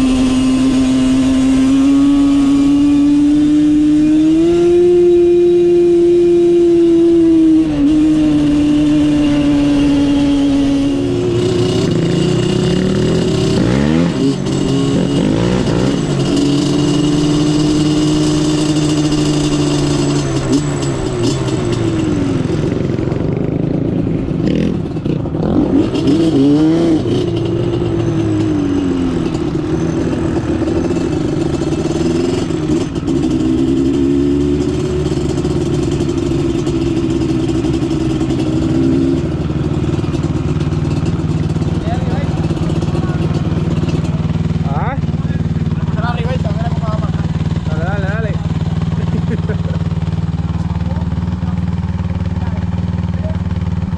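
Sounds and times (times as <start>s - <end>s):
off-road vehicle engines revving: 0.0s - 53.9s.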